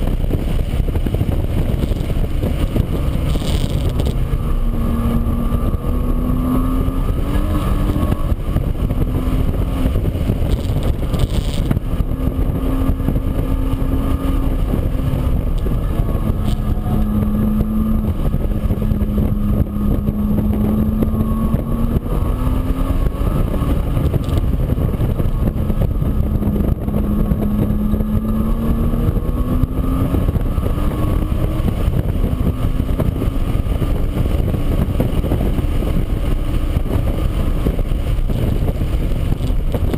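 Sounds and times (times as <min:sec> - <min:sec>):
heavy low rumble: 0:00.0 - 0:39.9.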